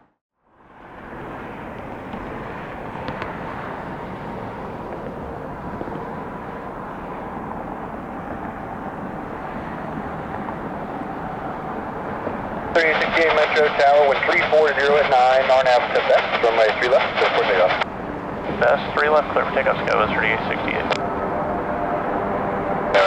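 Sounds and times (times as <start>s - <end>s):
faint engine whine: 0.4s - 23.0s
jet engines running: 0.8s - 23.0s.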